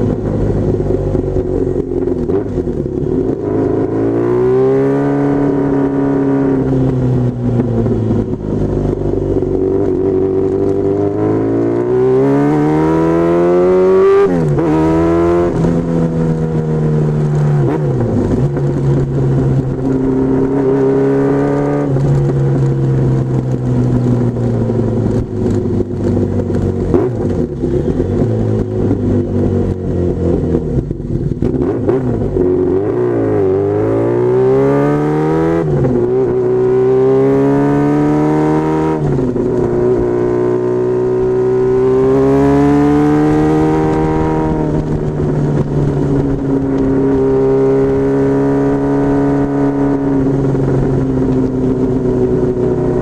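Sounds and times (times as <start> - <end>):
motorcycle engine accelerating: 0.0 - 53.0
wind and road noise: 0.0 - 53.0.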